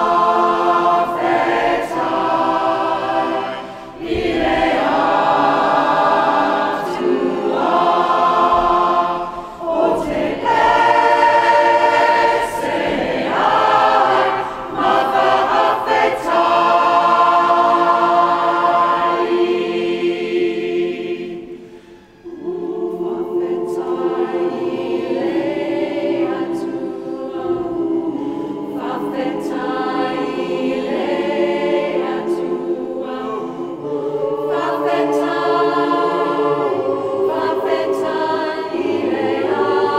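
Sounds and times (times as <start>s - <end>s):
choir singing sustained chords: 0.0s - 39.9s.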